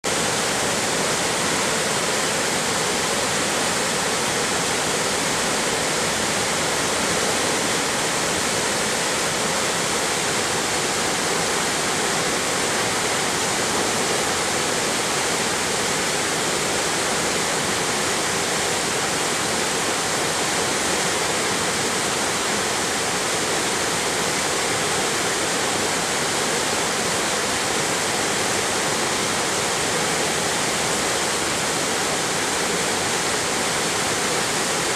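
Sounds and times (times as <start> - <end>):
waterfall and stream rushing: 0.0 - 34.9.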